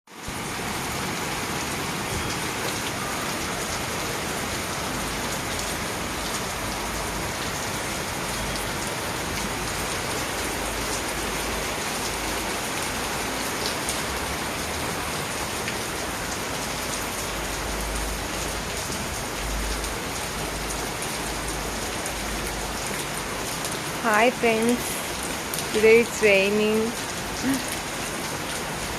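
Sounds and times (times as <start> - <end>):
steady rain hiss: 0.1 - 28.9.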